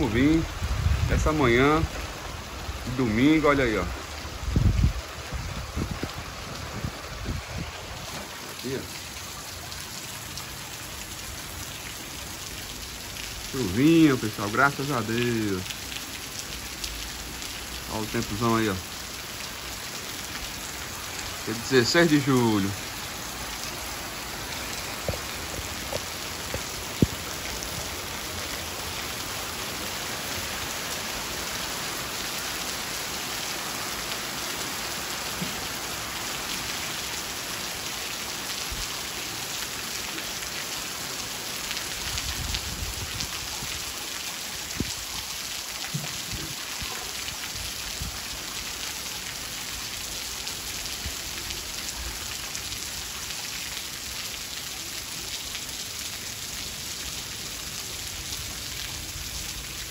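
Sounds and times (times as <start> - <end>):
rain on street and roofs: 0.0 - 59.9.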